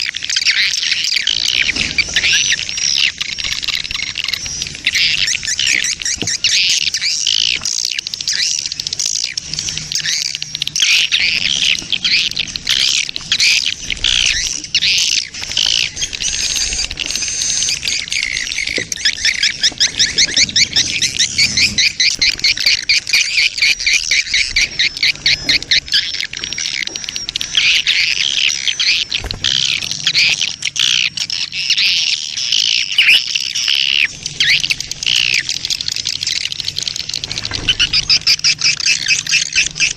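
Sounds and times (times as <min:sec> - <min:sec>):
pulsed bird trill: 0:00.0 - 0:39.9
swiftlets twittering and chirping: 0:00.0 - 0:39.9.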